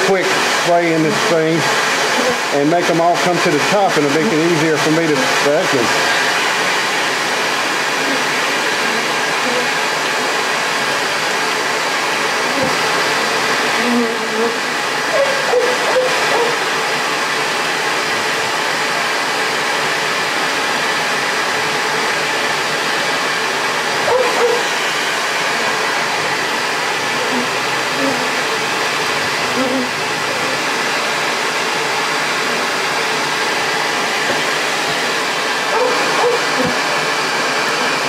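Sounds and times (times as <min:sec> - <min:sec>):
vacuum motor rushing hiss: 0:00.0 - 0:38.0.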